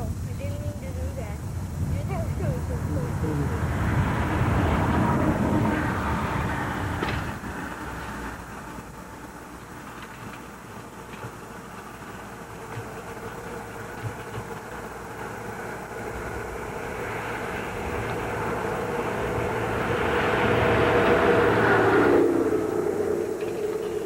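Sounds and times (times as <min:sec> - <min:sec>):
vehicle engine hum approaching: 0:00.0 - 0:24.0.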